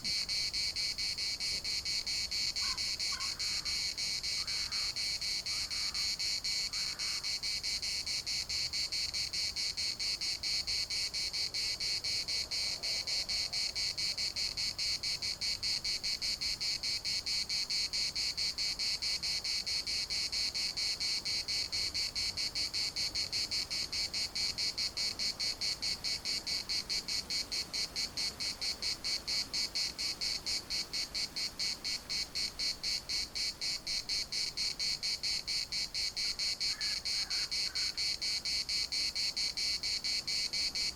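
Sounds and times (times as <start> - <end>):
cicadas shrilling: 0.0 - 40.9.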